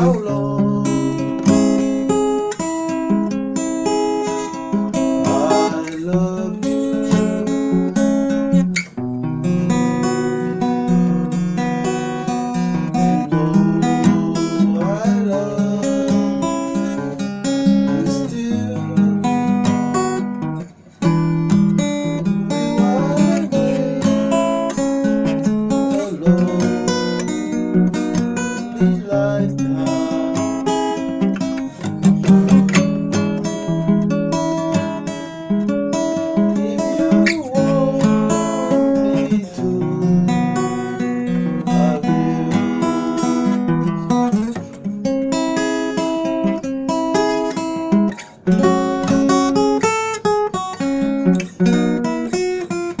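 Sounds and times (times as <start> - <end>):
acoustic guitar strummed and plucked: 0.0 - 53.0.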